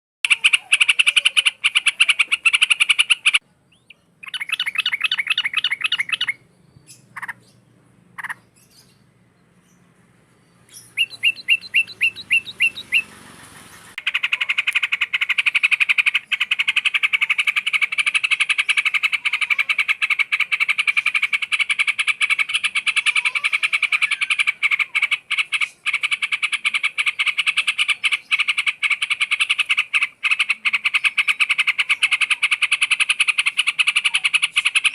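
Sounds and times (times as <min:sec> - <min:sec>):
bulbul chattering trills: 0:00.2 - 0:09.1, 0:10.6 - 0:34.9
bird chirps: 0:00.2 - 0:34.9.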